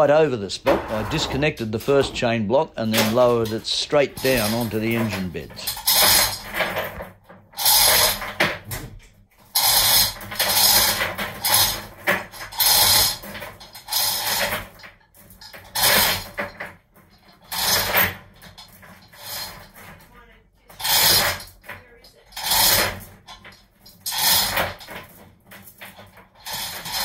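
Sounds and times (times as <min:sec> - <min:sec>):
hoist chain rattling: 0:00.6 - 0:08.4, 0:09.5 - 0:27.0.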